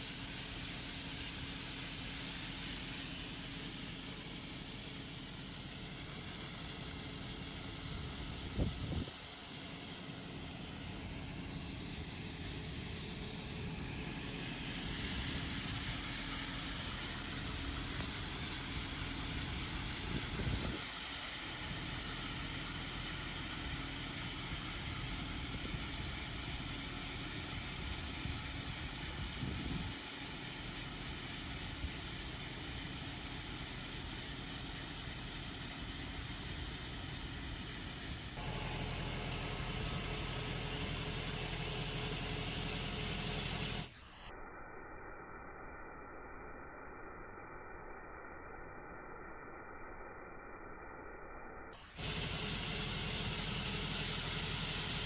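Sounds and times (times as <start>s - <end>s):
tractor engine hum: 0.0s - 44.0s, 51.9s - 55.0s.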